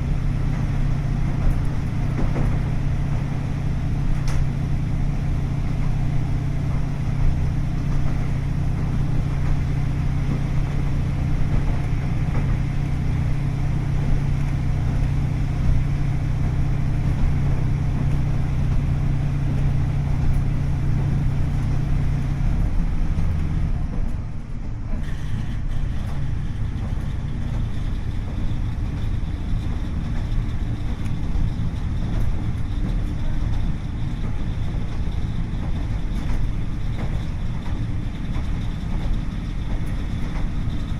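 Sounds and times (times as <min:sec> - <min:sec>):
diesel engine hum: 0:00.0 - 0:40.9
train wheels rumbling on rails: 0:00.0 - 0:40.9.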